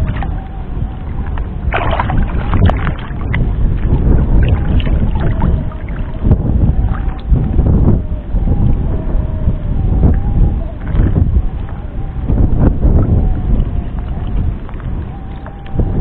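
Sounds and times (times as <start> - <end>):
water sloshing and splashing: 0.0 - 9.0, 10.0 - 16.0.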